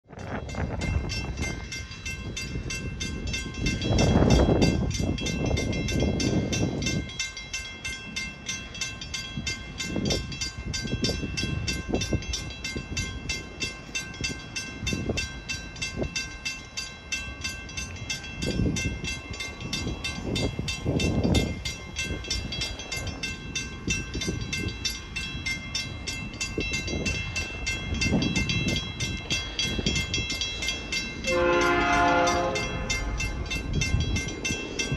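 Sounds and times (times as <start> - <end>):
distant train rumble: 0.0 - 34.9
crossing bell ringing: 0.1 - 34.9.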